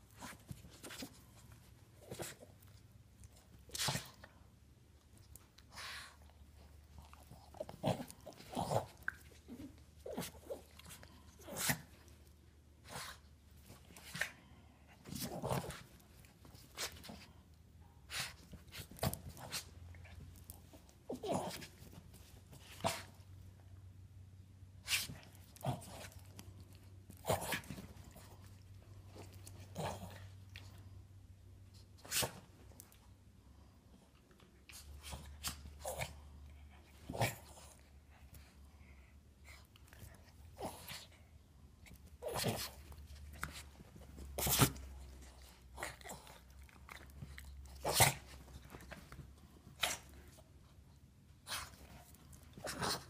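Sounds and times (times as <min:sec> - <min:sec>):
dogs play-fighting: 0:00.0 - 0:53.0.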